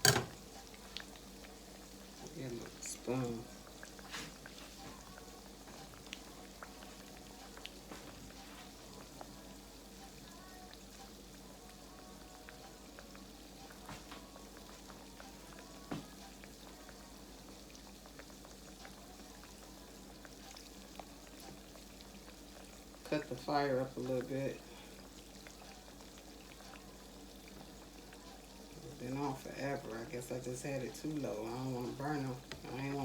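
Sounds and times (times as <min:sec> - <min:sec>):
food sizzling in grease: 0:00.0 - 0:33.0.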